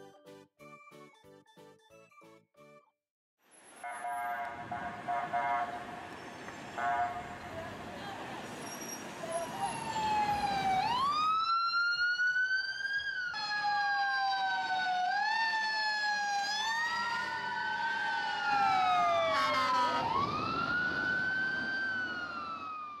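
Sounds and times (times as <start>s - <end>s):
emergency sirens wailing: 3.9s - 23.0s.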